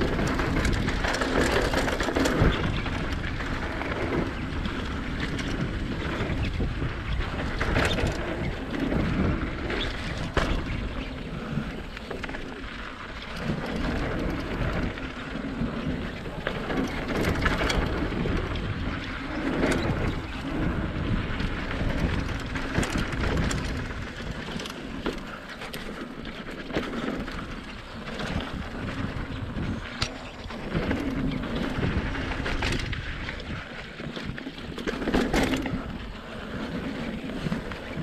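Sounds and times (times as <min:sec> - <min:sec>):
bike rattling: 0:00.0 - 0:38.0
bike tyres rolling: 0:00.0 - 0:38.0
wind rushing over microphone: 0:00.0 - 0:38.0.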